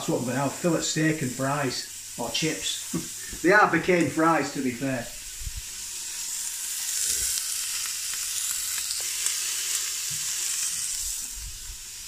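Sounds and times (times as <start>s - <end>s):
steak sizzling in a pot: 0.0s - 12.0s.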